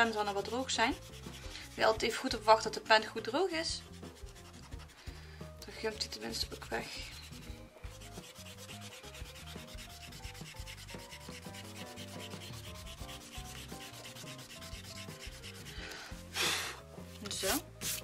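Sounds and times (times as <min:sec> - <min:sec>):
eraser rubbing on paper: 0:00.0 - 0:05.2, 0:05.8 - 0:16.3, 0:17.5 - 0:18.0.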